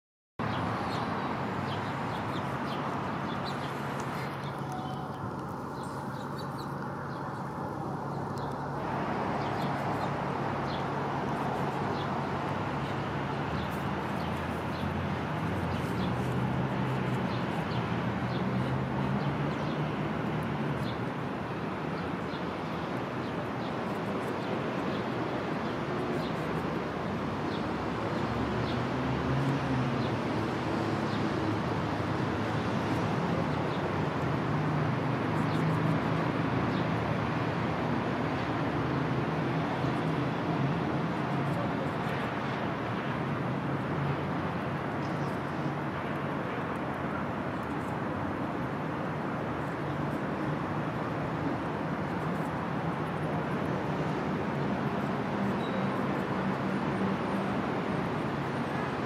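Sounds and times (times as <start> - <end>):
distant road traffic hum: 0.4 - 59.0.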